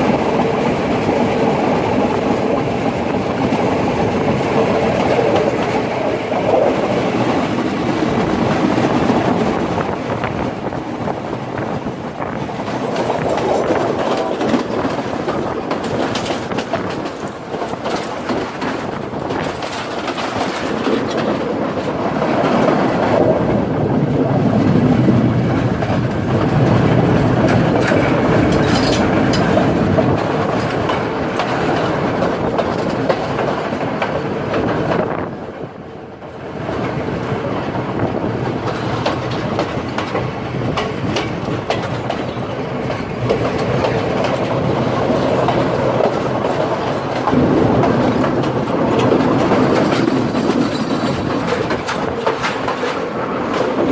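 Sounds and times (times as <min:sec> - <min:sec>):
train rumbling along tracks: 0:00.0 - 0:53.9
wheels clicking over rail joints: 0:00.0 - 0:53.9.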